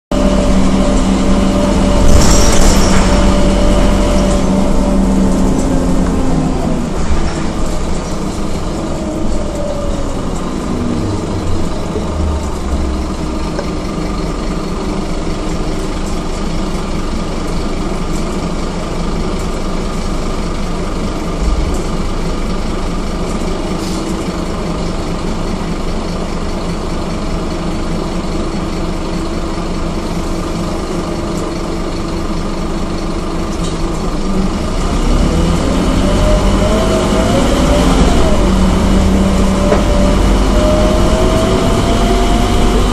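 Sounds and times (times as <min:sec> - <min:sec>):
bus diesel engine: 0:00.1 - 0:42.9.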